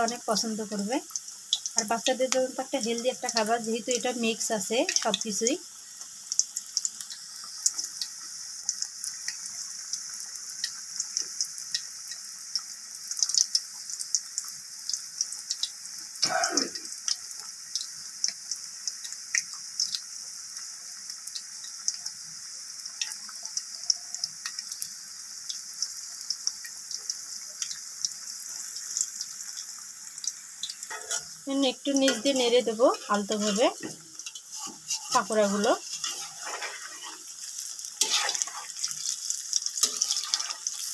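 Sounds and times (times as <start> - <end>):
batter deep-frying in oil: 0.0 - 40.9.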